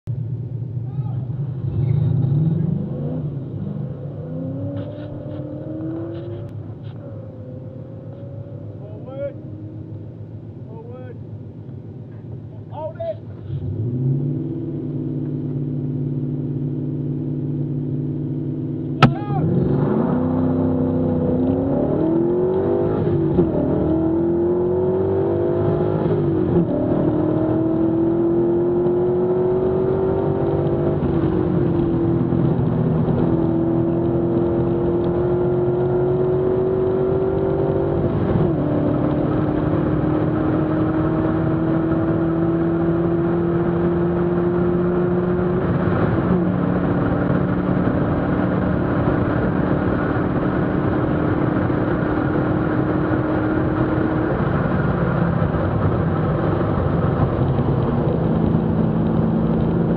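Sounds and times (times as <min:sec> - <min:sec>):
car engine revving: 0:01.3 - 0:11.2, 0:13.3 - 0:59.9
car accelerating through gears: 0:01.6 - 0:08.9, 0:19.0 - 0:59.9.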